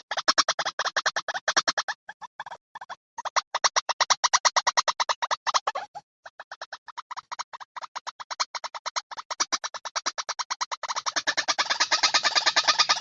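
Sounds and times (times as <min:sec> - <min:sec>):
bird call of harsh repeated notes: 0:00.0 - 0:13.0.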